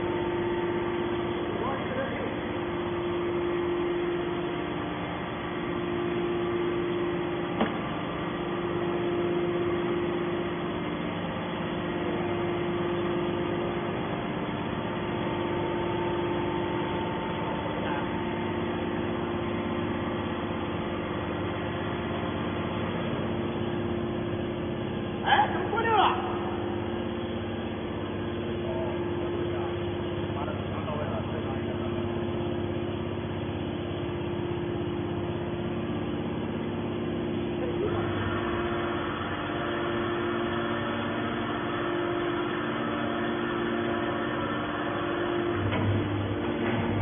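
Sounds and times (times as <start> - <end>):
hydraulic power unit humming: 0.0 - 47.0.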